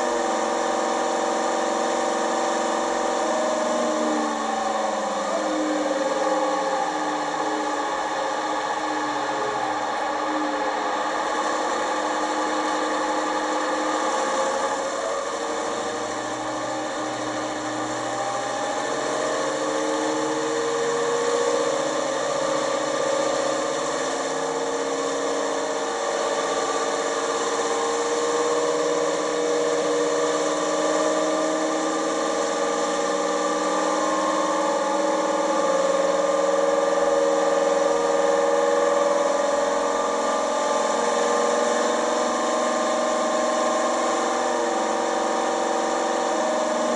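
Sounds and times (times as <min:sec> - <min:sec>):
diesel engine sound from small speaker: 0:00.0 - 0:46.9.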